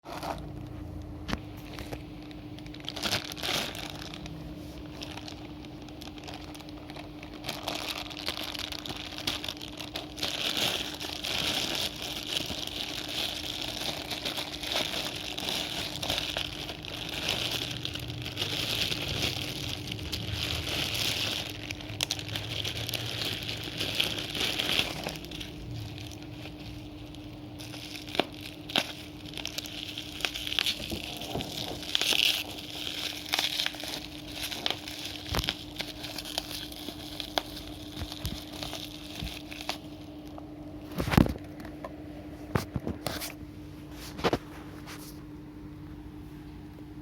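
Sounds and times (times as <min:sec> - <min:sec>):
plastic packaging crinkling: 0:00.0 - 0:45.2
steady low hum: 0:00.0 - 0:47.0.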